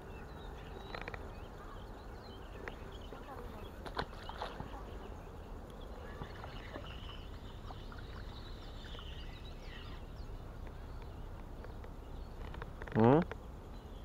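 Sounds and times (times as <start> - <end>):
faint bird chirps: 0.0 - 14.0
steady low rumble: 0.0 - 14.0.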